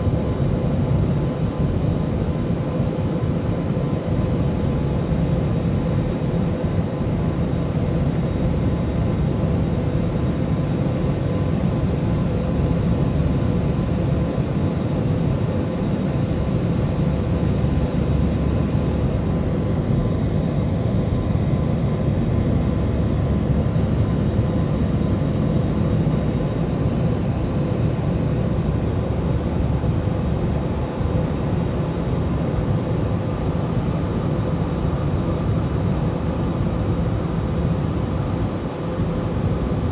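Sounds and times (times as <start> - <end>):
airliner engines droning: 0.0 - 39.9.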